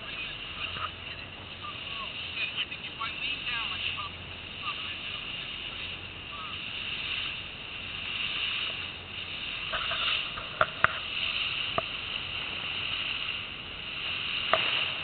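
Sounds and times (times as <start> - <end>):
boat rushing through water: 0.0 - 15.0.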